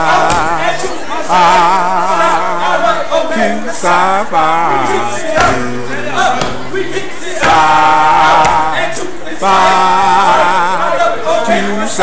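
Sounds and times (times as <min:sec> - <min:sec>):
men singing with vibrato: 0:00.0 - 0:12.0.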